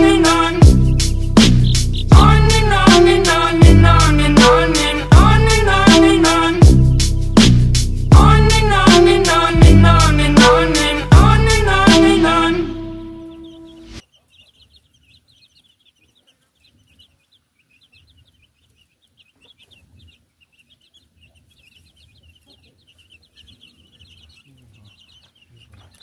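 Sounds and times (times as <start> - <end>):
hen clucking: 0.0 - 6.8, 7.8 - 26.0
baby chicks peeping: 0.0 - 26.0.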